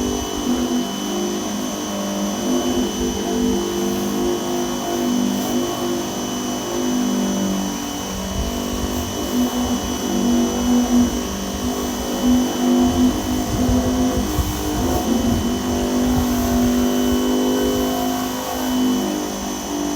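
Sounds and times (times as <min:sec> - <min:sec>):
pressure washer whining: 0:00.0 - 0:19.9.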